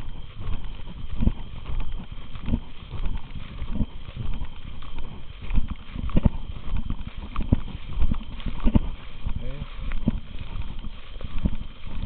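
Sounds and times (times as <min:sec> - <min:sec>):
footsteps on grass: 0:00.0 - 0:12.0.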